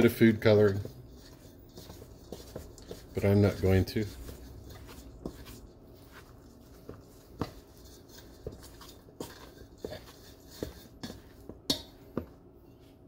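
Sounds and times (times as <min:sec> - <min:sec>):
metal spoon scraping steel bowl: 0:00.0 - 0:12.0.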